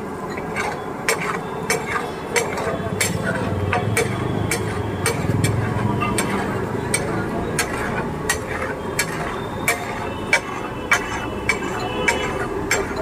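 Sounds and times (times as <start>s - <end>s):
metal spatula clinking on griddle: 0.3s - 13.0s.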